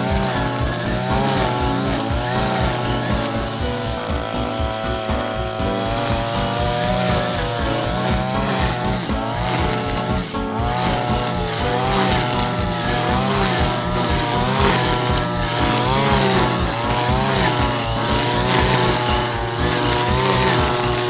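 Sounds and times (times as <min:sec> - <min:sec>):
brush cutter cutting grass: 0:00.0 - 0:21.0.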